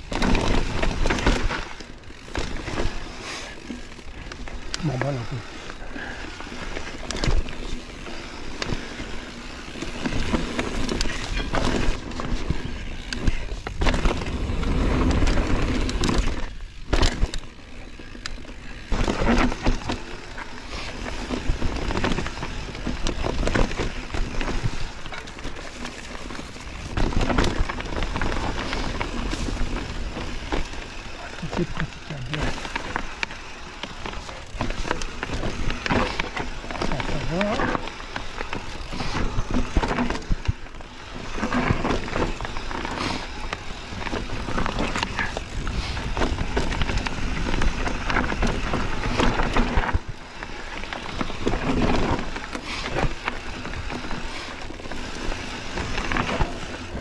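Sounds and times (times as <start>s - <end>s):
bike rattling: 0.0s - 57.0s
bike tyres on dirt and roots: 0.0s - 57.0s.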